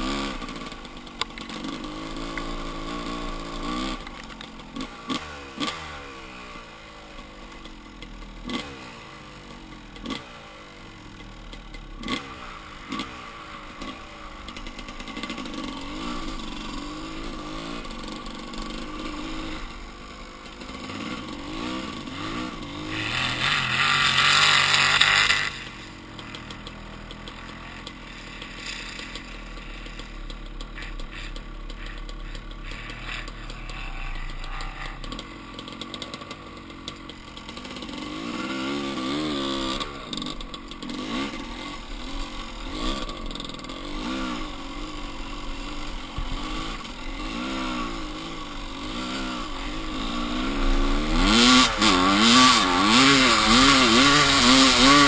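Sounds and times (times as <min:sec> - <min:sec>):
single-cylinder engine revving: 0:00.0 - 0:55.0.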